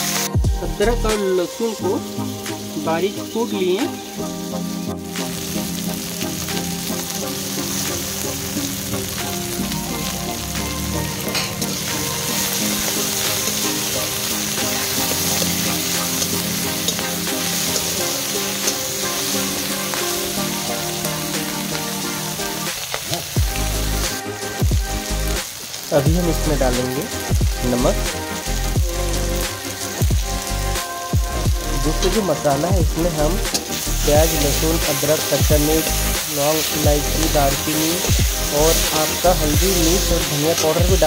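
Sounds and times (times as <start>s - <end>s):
vegetables sizzling in hot oil: 0.0s - 41.0s.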